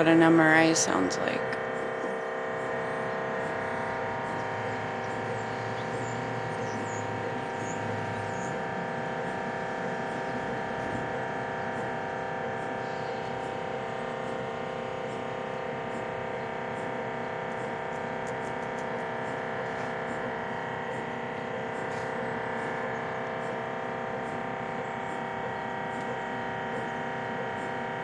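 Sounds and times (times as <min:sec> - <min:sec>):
low hum: 0:00.0 - 0:28.0
mri scanner drone: 0:00.0 - 0:28.0.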